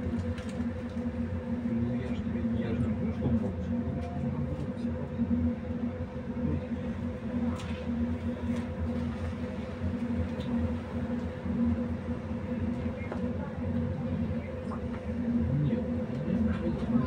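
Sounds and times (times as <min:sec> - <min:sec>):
low pulsing drone: 0:00.0 - 0:17.0
tram electrical hum: 0:00.0 - 0:17.0.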